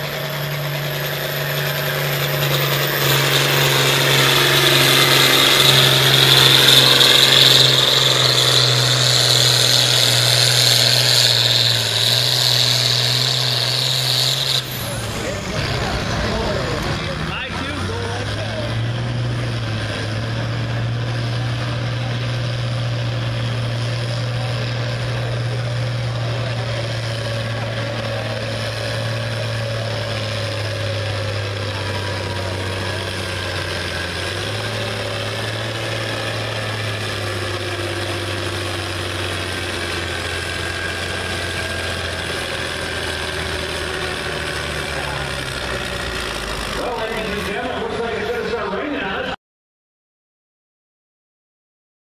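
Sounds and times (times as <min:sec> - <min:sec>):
tractor diesel engine under load: 0:00.0 - 0:49.4.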